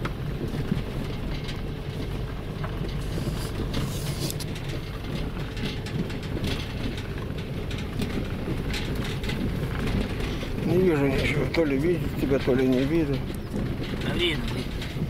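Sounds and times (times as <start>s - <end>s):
car body knocks and rattles: 0.0s - 15.0s
car engine and tyres rumbling: 0.0s - 15.0s.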